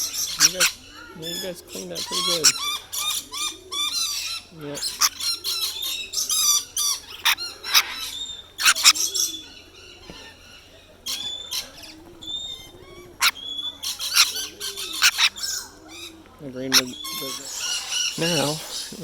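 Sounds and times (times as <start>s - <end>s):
parrots squawking: 0.0s - 19.0s.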